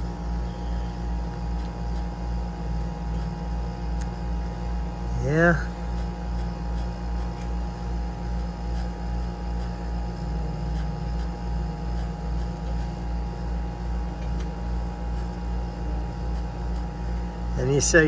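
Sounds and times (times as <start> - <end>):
pulsing mechanical hum: 0.0 - 18.0.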